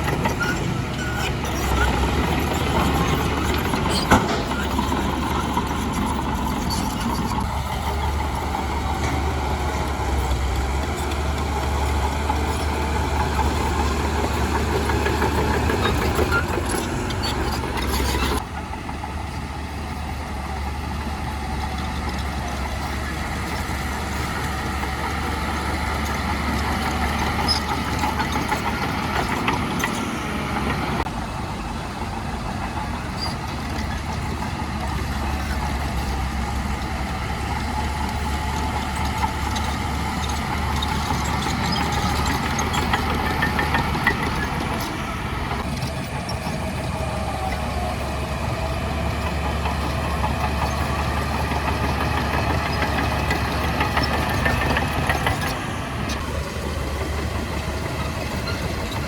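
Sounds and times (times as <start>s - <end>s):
heavy diesel engines humming: 0.0s - 59.0s.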